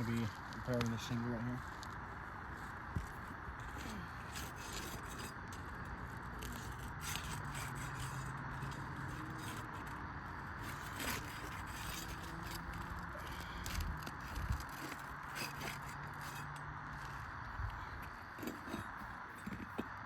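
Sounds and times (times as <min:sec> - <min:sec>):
scraping and crackling shingle: 0:00.0 - 0:20.0.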